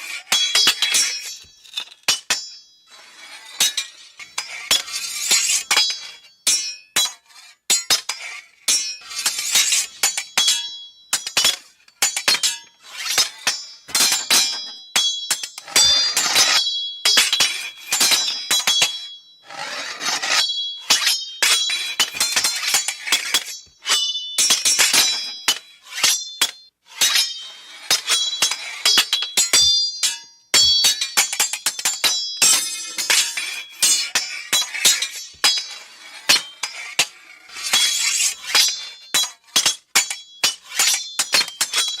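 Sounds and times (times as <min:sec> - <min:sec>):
swords clashing: 0:00.0 - 0:42.0.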